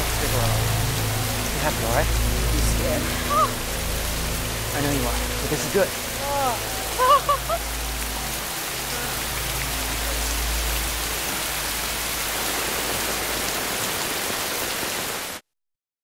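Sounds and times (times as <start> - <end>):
heavy rain pouring: 0.0 - 15.4.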